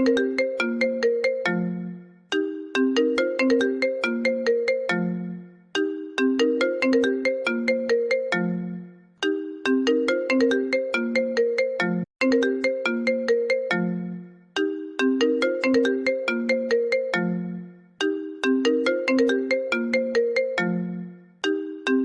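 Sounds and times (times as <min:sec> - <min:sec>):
phone ringtone melody: 0:00.0 - 0:22.0.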